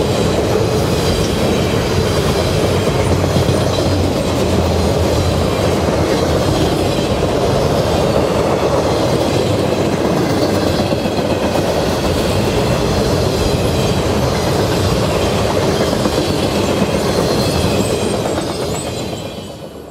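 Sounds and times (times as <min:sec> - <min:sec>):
steel wheels rumbling on track: 0:00.0 - 0:19.9.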